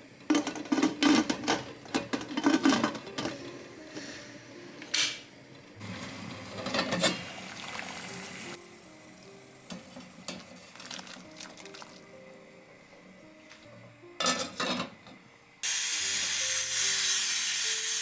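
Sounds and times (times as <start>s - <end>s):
soft background music: 0.0s - 18.0s.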